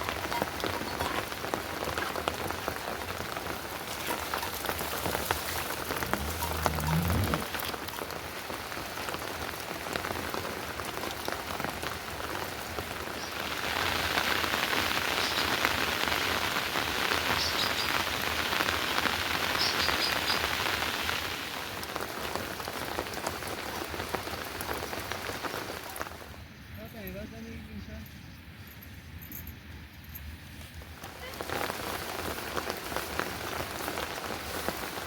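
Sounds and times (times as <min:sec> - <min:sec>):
heavy rain falling: 0:00.0 - 0:26.4, 0:30.9 - 0:35.0.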